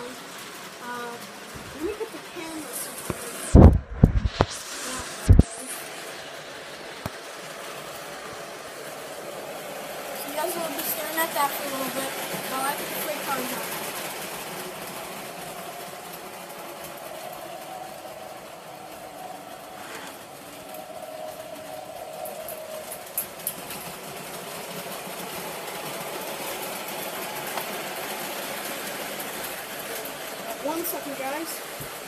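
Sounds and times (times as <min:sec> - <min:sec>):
model train motors humming: 0:00.0 - 0:03.7, 0:04.7 - 0:32.0.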